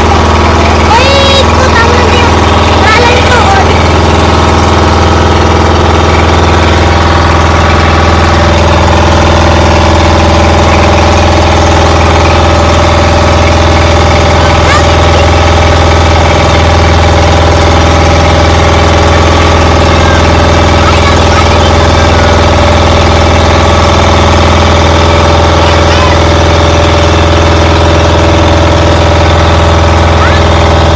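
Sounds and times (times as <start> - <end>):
engine running steadily: 0.0 - 30.9.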